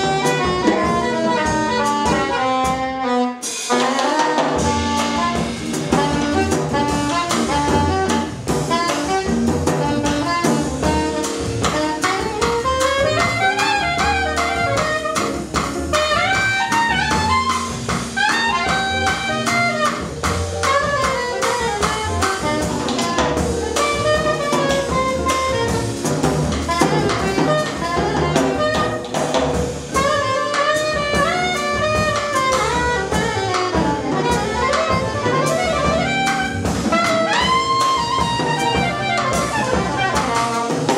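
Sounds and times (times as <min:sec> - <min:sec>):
upright bass: 0:00.0 - 0:03.0, 0:03.8 - 0:40.9
soprano saxophone: 0:00.0 - 0:26.1, 0:26.7 - 0:29.1, 0:29.9 - 0:40.9
drum kit: 0:00.0 - 0:40.9.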